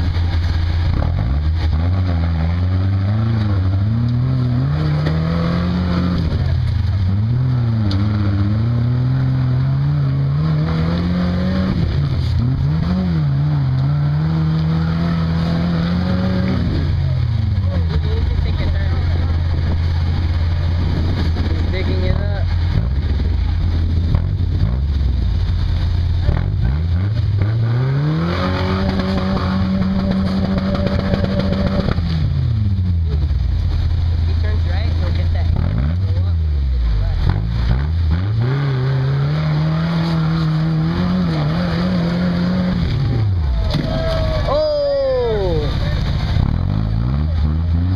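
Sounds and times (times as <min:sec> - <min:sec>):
truck engine working under load: 0:00.0 - 0:47.9.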